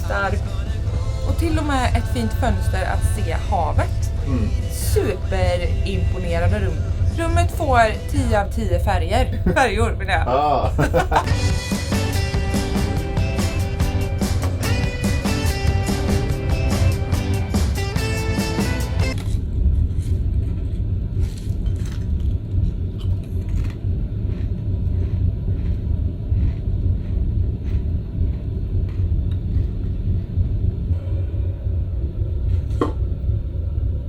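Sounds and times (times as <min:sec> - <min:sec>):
ferry engine rumble: 0:00.0 - 0:34.0.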